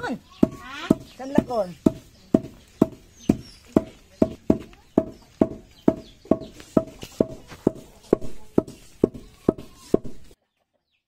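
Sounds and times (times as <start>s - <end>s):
wooden pestles pounding in mortar: 0.0s - 10.4s.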